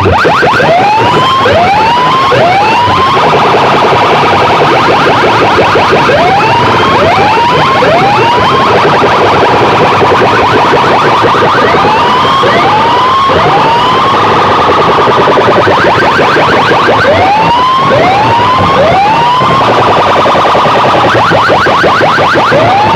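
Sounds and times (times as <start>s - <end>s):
siren whoops: 0.0s - 22.9s.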